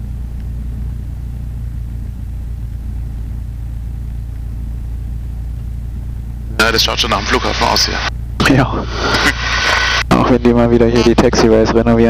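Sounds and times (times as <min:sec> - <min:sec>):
piston engine low drone: 0:00.0 - 0:11.5.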